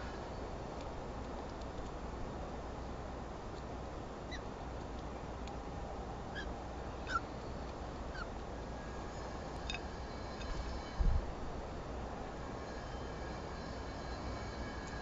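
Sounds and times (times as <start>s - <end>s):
outdoor ambience hum: 0.0s - 15.0s.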